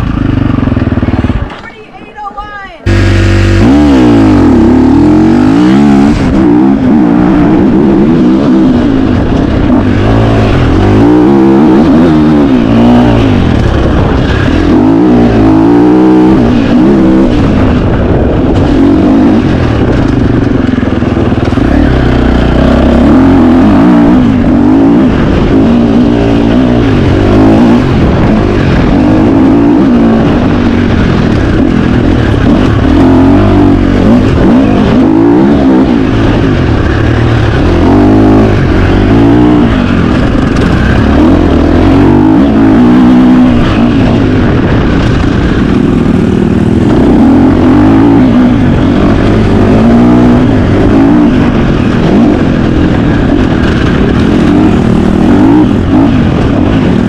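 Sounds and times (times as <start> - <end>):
dirt bike engine revving: 2.8 - 57.0.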